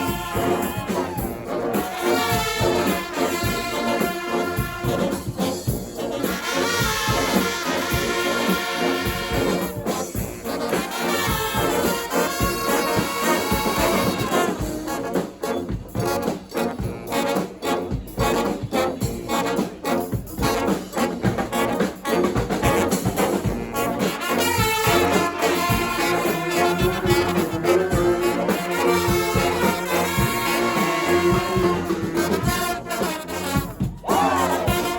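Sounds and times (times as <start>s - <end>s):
street brass band playing: 0.0s - 34.9s.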